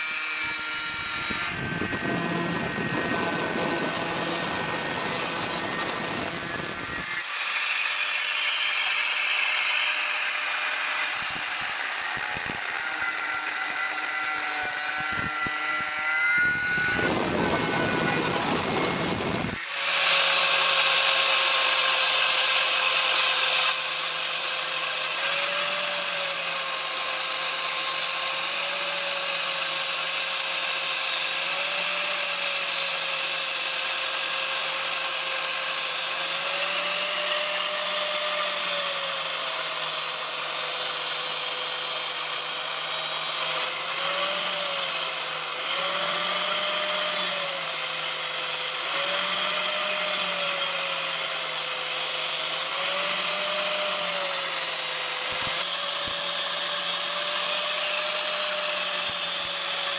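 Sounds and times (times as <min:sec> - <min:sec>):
power tool working on metal: 0:00.0 - 0:59.9.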